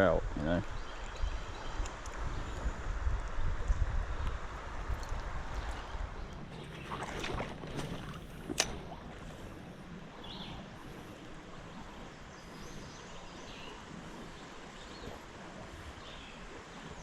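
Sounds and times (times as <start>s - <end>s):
creek background noise: 0.0s - 17.0s.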